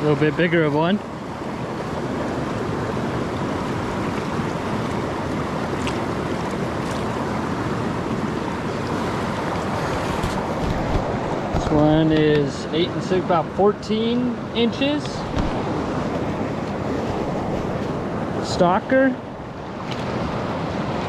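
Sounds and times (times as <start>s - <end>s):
creek rushing over rocks: 0.0s - 13.7s, 14.3s - 21.0s.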